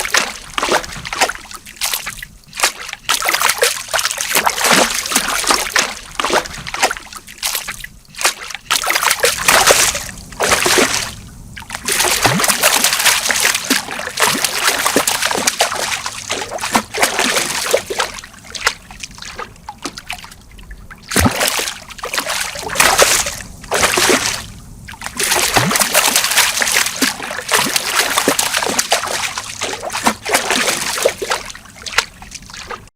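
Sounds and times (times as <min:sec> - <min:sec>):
fish splashing in water: 0:00.0 - 0:32.9.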